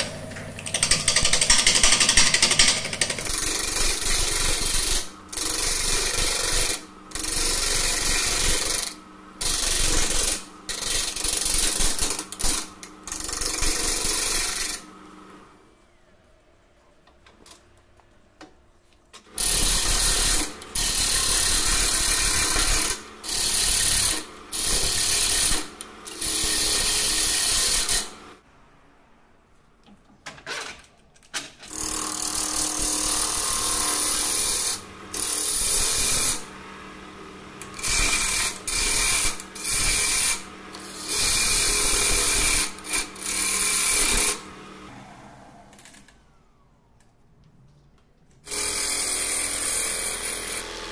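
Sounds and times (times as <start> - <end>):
turning tool cutting wood: 0.0 - 15.5, 19.3 - 28.3, 31.7 - 46.2, 48.4 - 50.9
wood lathe turning: 0.0 - 15.5, 19.3 - 28.3, 31.7 - 46.2, 48.4 - 50.9.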